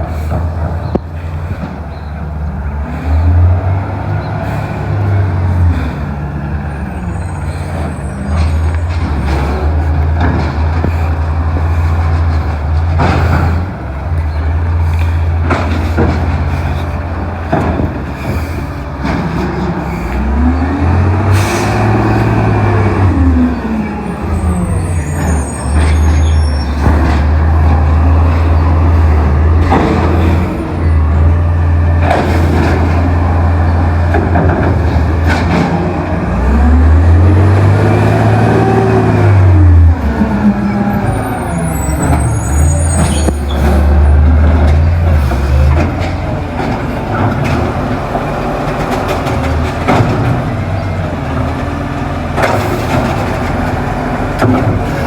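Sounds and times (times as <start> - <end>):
garbage truck diesel engine droning: 0.0 - 55.0.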